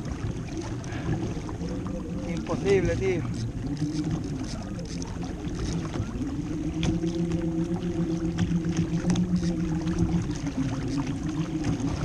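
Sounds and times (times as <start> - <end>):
steady low hum: 0.0 - 12.0
water slapping against kayak hull: 0.0 - 12.0.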